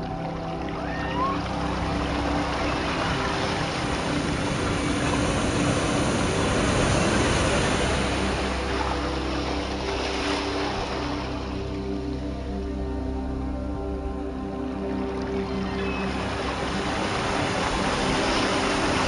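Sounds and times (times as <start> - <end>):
sea waves breaking on shore: 0.0 - 12.0, 15.2 - 19.0.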